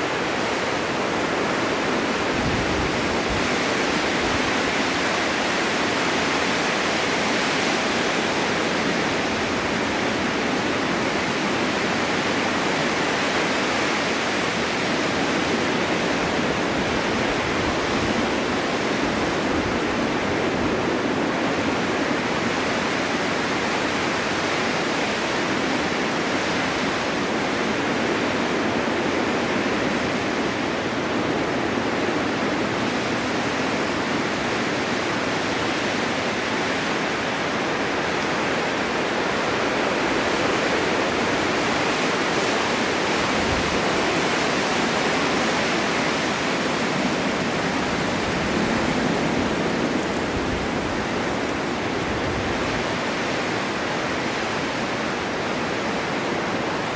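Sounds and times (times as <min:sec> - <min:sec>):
snowstorm wind blowing: 0:00.0 - 0:56.9.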